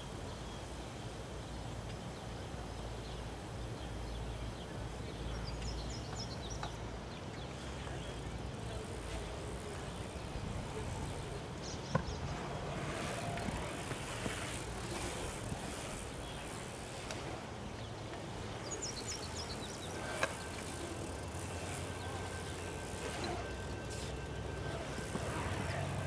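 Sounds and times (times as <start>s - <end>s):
outdoor noise: 0.0s - 26.0s
bike tyres rolling on concrete: 1.4s - 26.0s.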